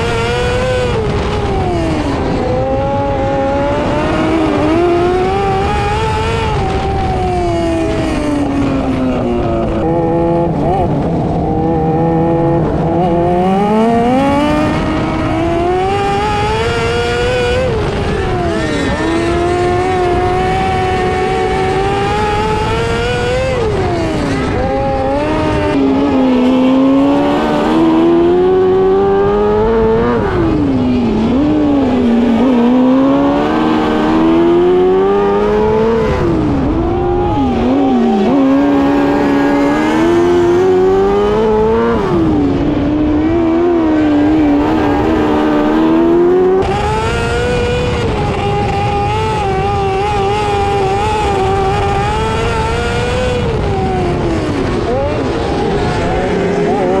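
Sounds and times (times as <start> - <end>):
racing engine revving: 0.0 - 57.0.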